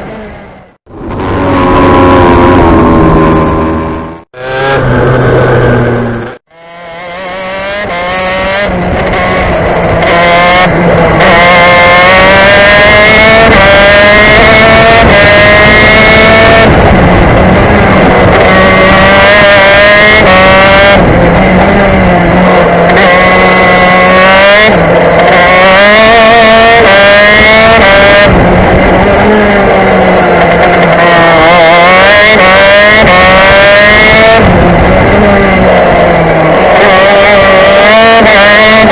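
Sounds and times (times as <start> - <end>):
kart two-stroke engine revving: 0.0 - 38.9.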